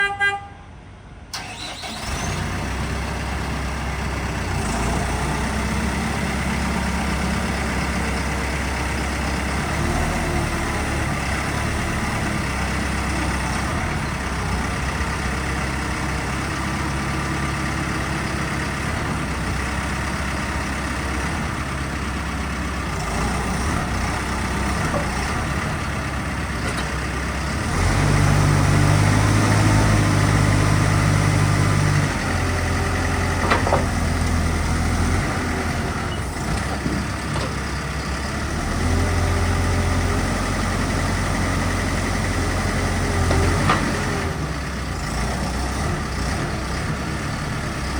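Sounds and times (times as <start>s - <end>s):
diesel engine starting and idling: 1.2s - 47.9s.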